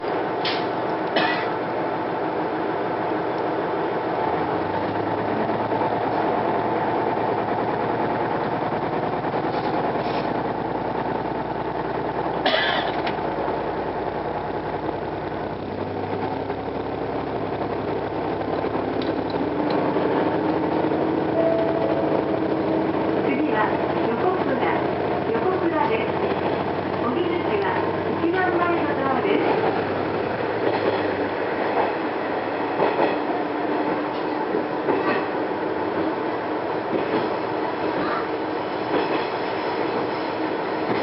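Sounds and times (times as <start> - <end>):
diesel railcar engine hum: 0.0 - 41.0.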